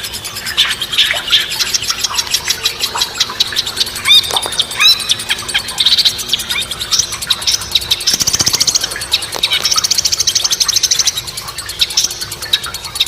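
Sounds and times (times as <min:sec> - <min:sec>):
songbird singing rapid trills: 0:00.0 - 0:13.0.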